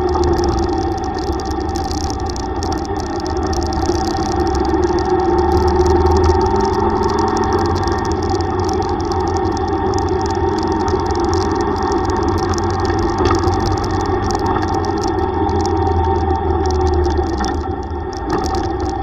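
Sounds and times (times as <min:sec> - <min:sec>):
rushing wind noise: 0:00.0 - 0:19.0.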